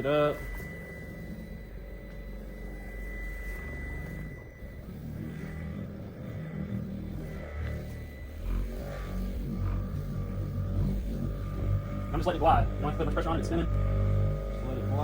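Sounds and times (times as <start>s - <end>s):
car polisher motor humming: 0.0s - 15.0s
thin high whine: 0.0s - 15.0s.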